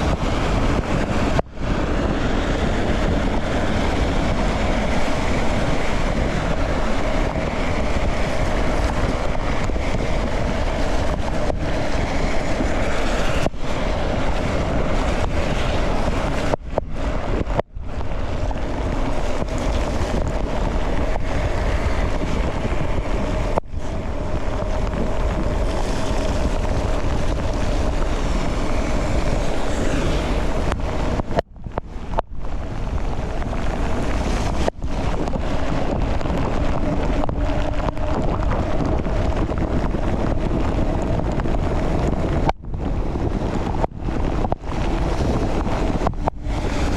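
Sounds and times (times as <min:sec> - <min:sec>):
wind roaring over microphone: 0:00.0 - 0:46.9.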